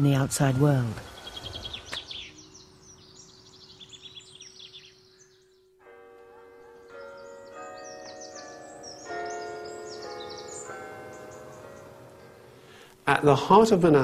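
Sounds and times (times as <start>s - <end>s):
small birds chirping: 0.0s - 12.9s
chord of held notes: 0.0s - 14.0s.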